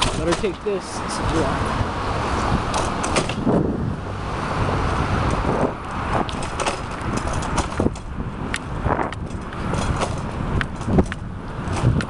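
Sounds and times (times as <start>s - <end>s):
bike rattling clicks and knocks: 0.0s - 3.6s, 5.2s - 12.0s
wind noise on microphone: 0.0s - 12.0s
bicycle tyre rumble: 1.1s - 12.0s.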